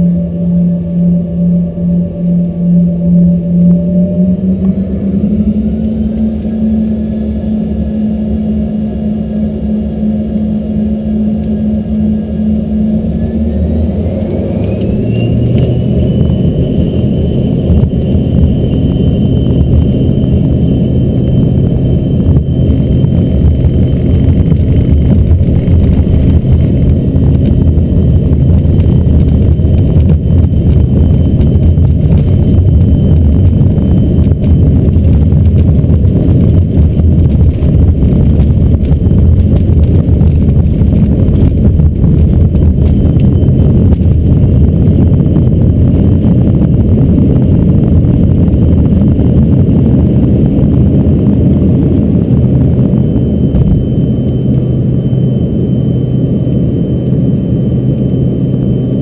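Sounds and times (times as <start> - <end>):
jet engines whining: 0.0 - 59.0
takeoff roll rumble: 0.0 - 59.0.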